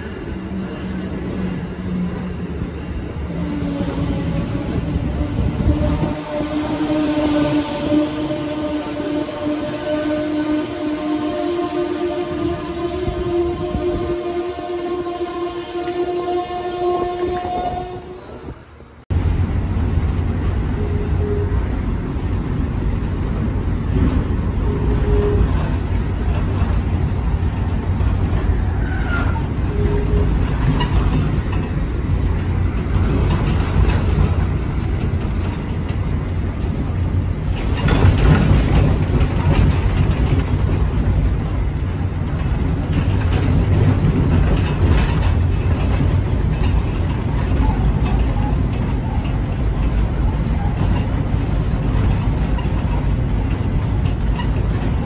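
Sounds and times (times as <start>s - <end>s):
train car rumbling at speed: 0.0s - 55.0s.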